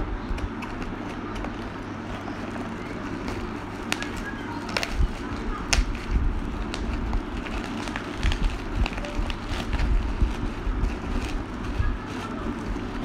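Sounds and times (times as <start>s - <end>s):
steady low hum: 0.0s - 13.0s
bubble wrap crinkling: 0.3s - 13.0s.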